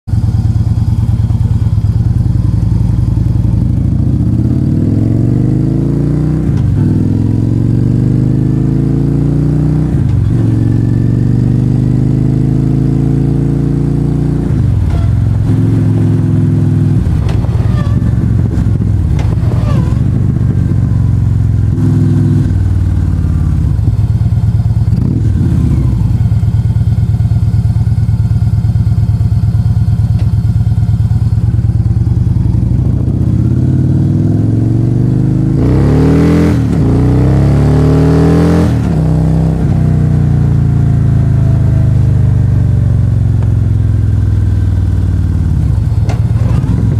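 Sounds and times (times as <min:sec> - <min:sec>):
motorcycle engine running loud: 0:00.1 - 0:46.9.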